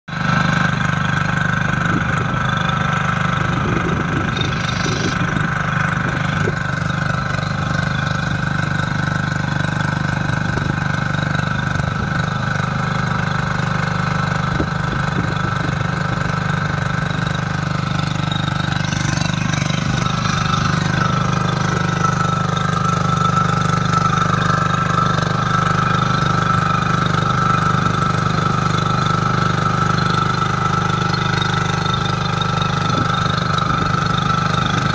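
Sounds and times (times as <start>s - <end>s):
tiller engine running: 0.1s - 34.9s
tines churning soil: 0.1s - 34.9s.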